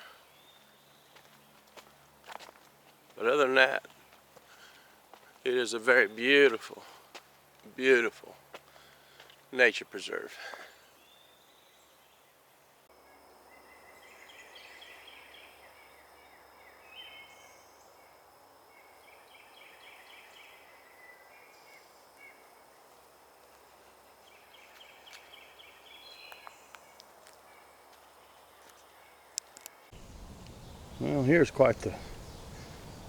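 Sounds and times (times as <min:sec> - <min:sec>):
songbird chirping: 0:00.0 - 0:33.0
faint background hiss: 0:03.1 - 0:33.0.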